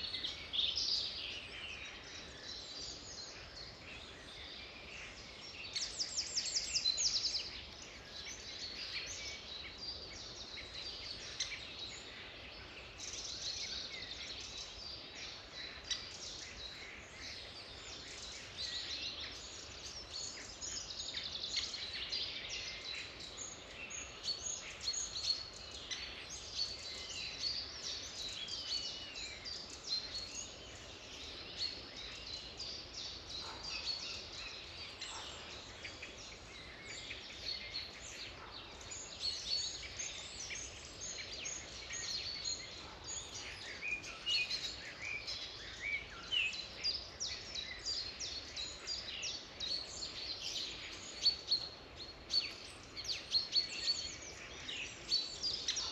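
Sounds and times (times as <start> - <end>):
songbirds singing and calling: 0.0 - 55.9.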